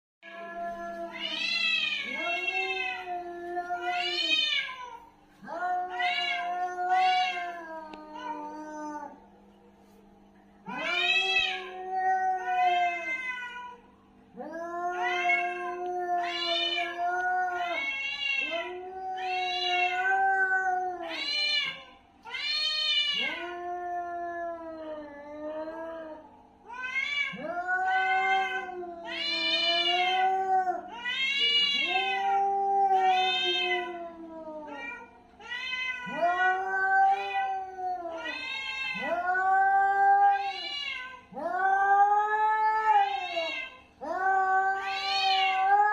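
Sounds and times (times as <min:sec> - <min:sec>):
cats yowling: 0:00.2 - 0:09.2, 0:10.7 - 0:13.8, 0:14.4 - 0:45.9.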